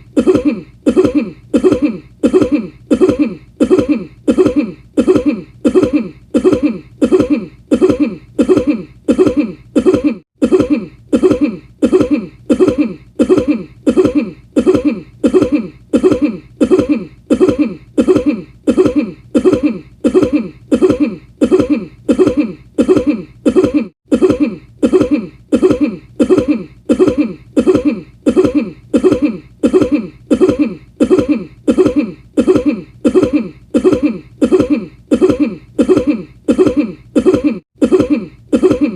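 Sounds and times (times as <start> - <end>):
person coughing: 0.0 - 38.9.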